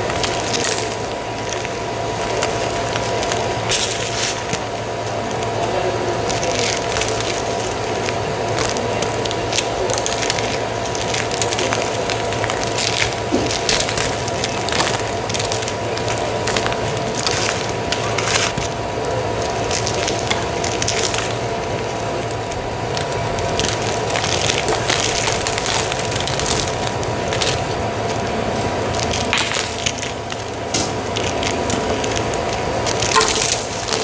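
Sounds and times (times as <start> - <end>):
crackling and crunching clicks: 0.0 - 34.0
machine hum with whine: 0.0 - 34.0.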